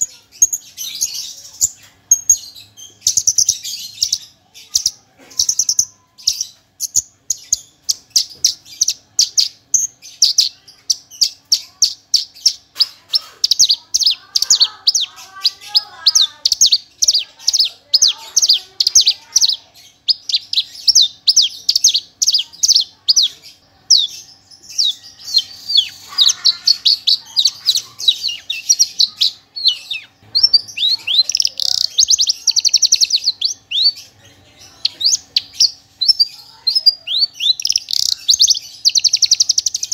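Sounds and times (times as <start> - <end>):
bird fast trilling: 0.0 - 39.9.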